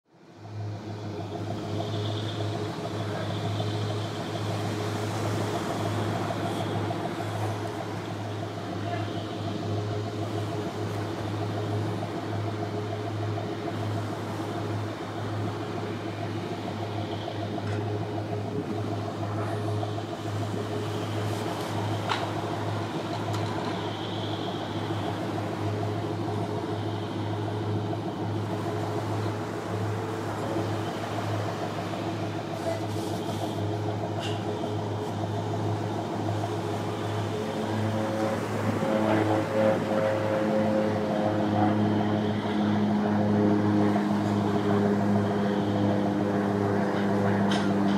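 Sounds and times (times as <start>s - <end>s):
engine machinery drone: 0.1s - 47.9s
humming tones: 1.0s - 47.7s.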